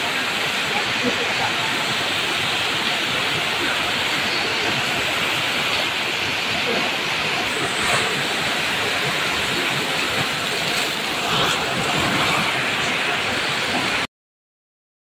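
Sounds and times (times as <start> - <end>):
heavy rain falling: 0.0 - 14.1.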